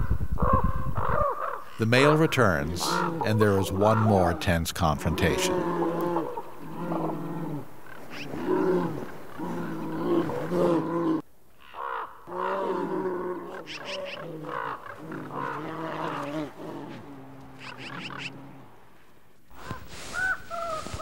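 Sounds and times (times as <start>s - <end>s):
ravens croaking: 0.0s - 21.0s
bears growling and roaring: 1.0s - 11.2s, 12.2s - 18.9s.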